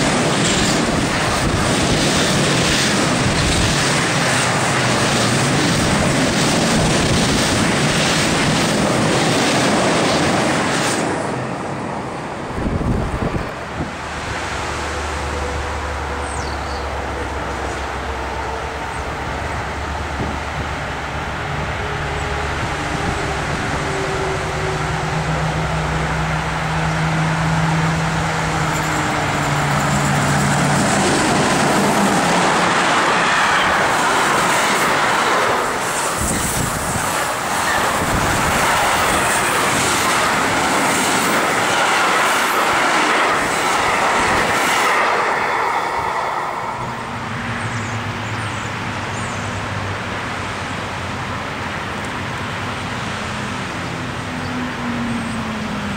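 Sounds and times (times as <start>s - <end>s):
electric train low hum: 0.0s - 55.9s
loud wheel and rail noise: 0.0s - 55.9s.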